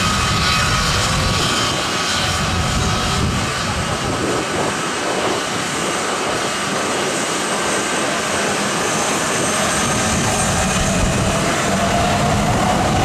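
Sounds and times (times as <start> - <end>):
jet aircraft engine roar: 0.0 - 13.0.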